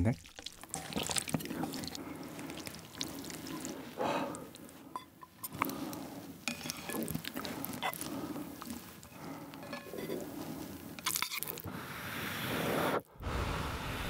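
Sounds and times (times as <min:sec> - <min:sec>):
wet noodles squishing and dripping: 0:00.0 - 0:11.7.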